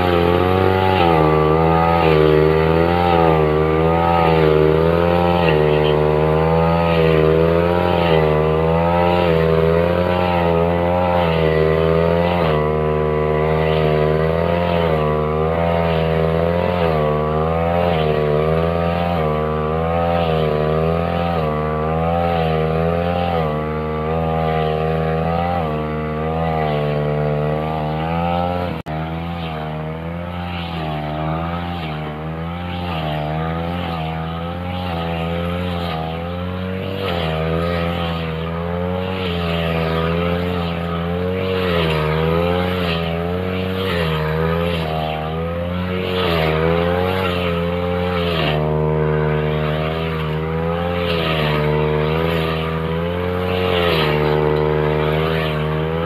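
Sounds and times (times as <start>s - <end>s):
brush cutter engine at high revs: 0.0s - 56.0s.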